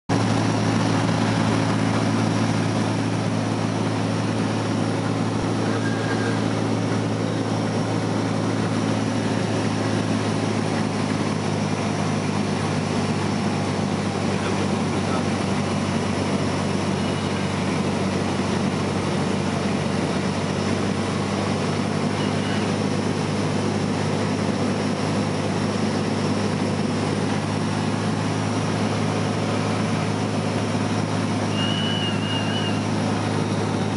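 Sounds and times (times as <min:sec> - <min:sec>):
light plane engine droning: 0:00.1 - 0:33.9.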